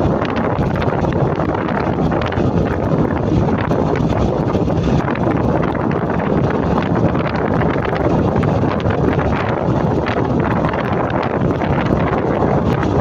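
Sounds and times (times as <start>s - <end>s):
motorcycle engine: 0.0s - 13.0s
road noise: 0.0s - 13.0s
wind rushing over microphone: 0.0s - 13.0s.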